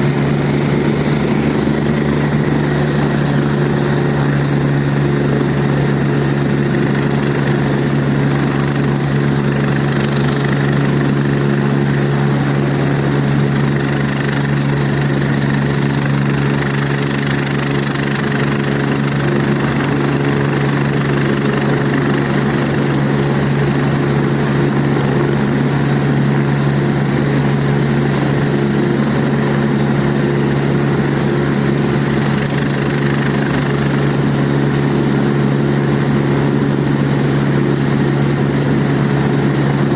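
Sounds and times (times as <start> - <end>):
helicopter engine and rotors humming: 0.0 - 39.9.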